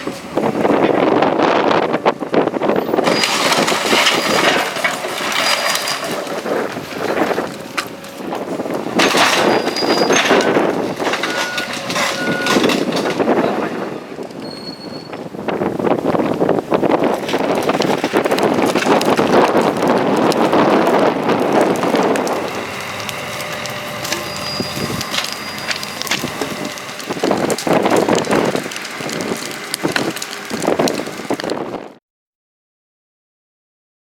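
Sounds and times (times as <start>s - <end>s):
wooden debris crunching: 0.0s - 32.0s.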